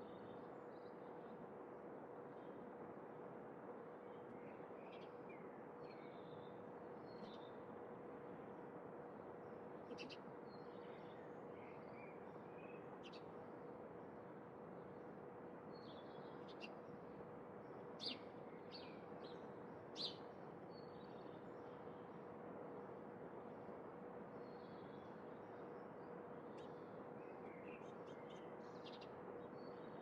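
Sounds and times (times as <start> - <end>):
faint constant hum: 0.0 - 30.0.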